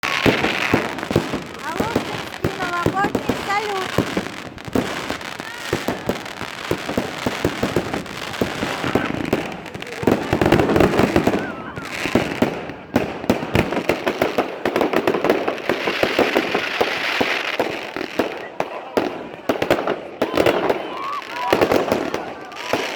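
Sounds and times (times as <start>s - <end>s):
fireworks bangs and crackling: 0.0s - 22.9s.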